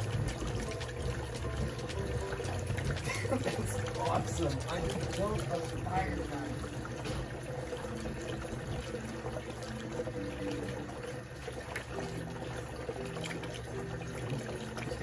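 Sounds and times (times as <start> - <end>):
gas bubbling through water: 0.0 - 15.0
water churning and gurgling: 0.0 - 15.0.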